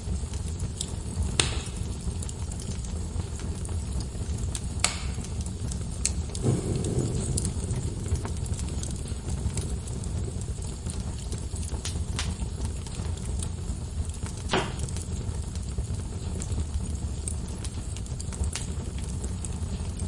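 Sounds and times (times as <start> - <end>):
log fire crackling and popping: 0.0 - 20.0.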